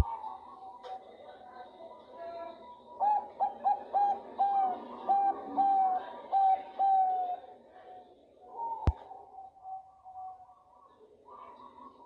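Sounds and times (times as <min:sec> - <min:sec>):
dove cooing: 0:00.0 - 0:01.9, 0:02.9 - 0:07.6, 0:08.5 - 0:12.0.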